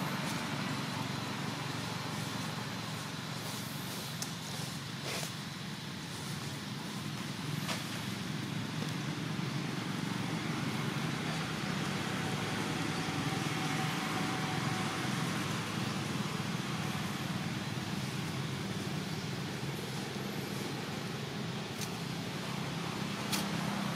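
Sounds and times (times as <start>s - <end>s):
low rumble of motor traffic: 0.0s - 23.9s.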